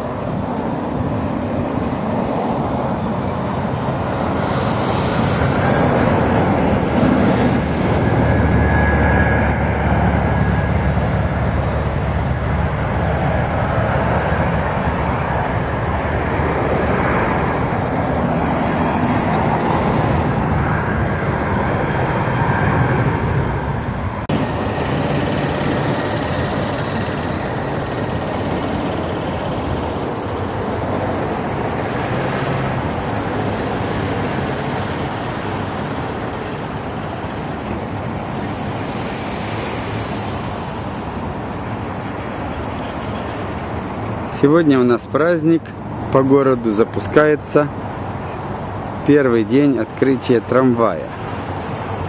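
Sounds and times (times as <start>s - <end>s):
road traffic rush: 0.0s - 52.0s.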